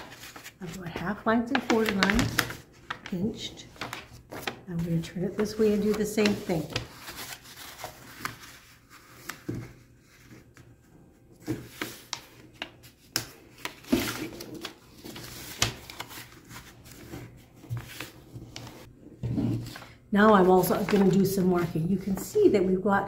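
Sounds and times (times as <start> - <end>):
paper rustling and crinkling: 0.0 - 22.5.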